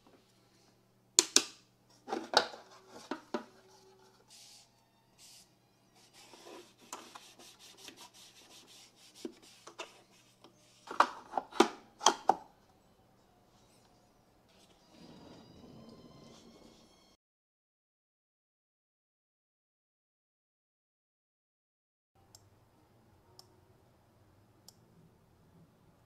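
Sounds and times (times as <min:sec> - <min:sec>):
faint steady hum: 0:00.0 - 0:17.1, 0:22.2 - 0:26.0.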